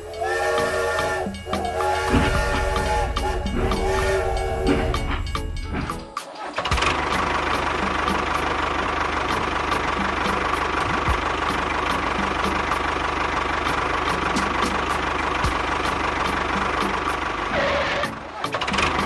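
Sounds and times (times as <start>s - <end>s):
small tractor engine idling: 0.0s - 17.6s.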